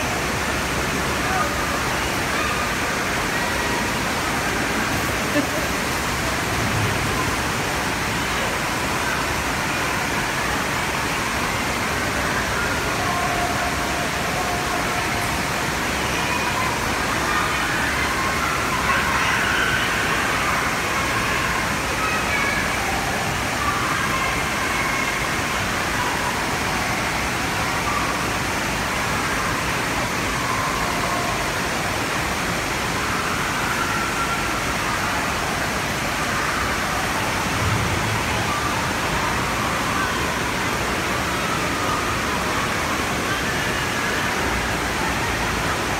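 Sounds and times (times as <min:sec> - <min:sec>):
distant children's voices and shouts: 0:00.0 - 0:45.9
water noise: 0:00.0 - 0:45.9.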